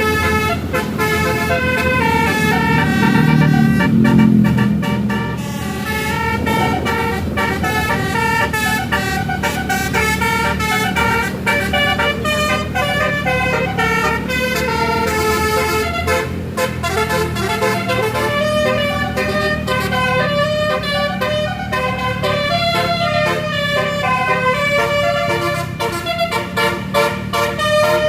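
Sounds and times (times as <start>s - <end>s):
steady low rumble: 0.0s - 27.6s
musical air horn melody: 0.0s - 28.0s.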